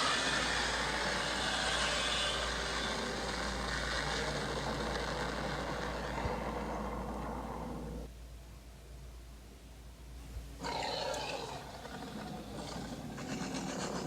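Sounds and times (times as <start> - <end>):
monster roar: 0.0 - 8.1, 10.6 - 14.0.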